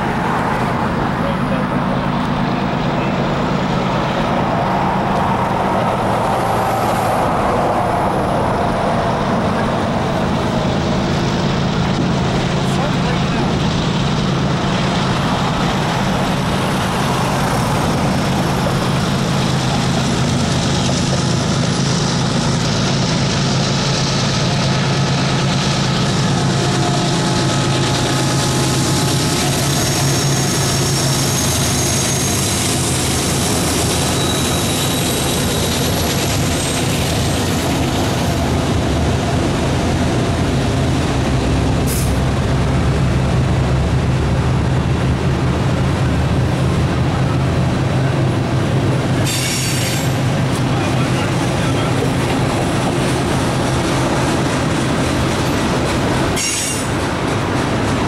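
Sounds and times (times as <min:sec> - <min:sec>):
diesel locomotive engine drone: 0:00.0 - 0:58.0
train cars rolling on rails: 0:00.0 - 0:58.0.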